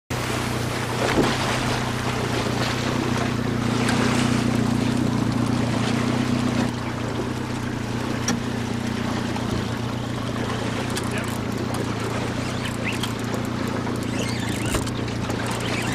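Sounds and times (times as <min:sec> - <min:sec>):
boat engine humming: 0:00.1 - 0:15.9
sea wash: 0:00.1 - 0:15.9.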